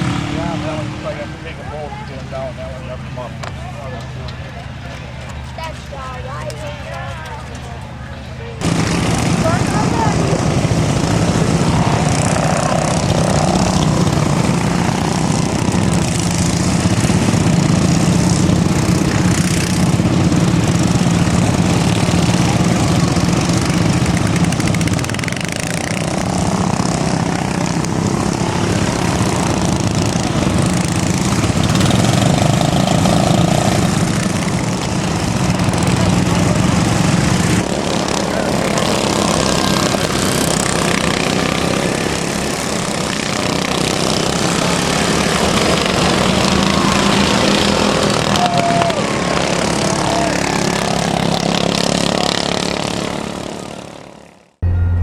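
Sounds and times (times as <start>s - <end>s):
racing lawnmower engines: 0.0s - 55.0s.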